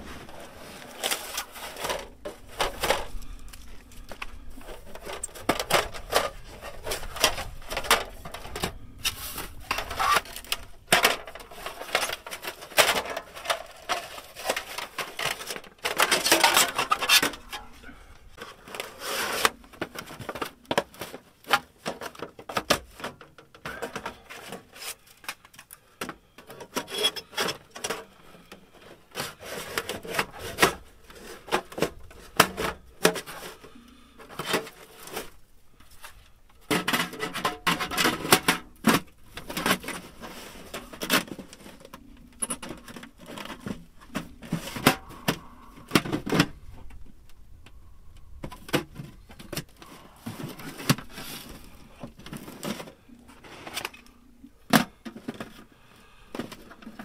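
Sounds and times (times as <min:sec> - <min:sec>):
objects rubbing and knocking: 0:00.0 - 0:47.2.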